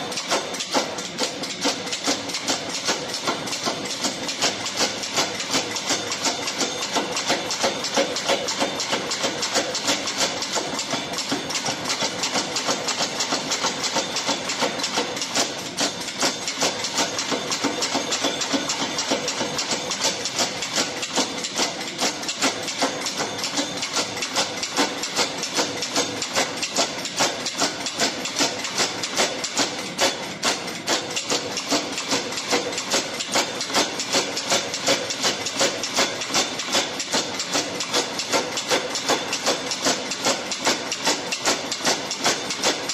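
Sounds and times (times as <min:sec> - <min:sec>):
power hammer striking hot metal: 0:00.0 - 0:42.9.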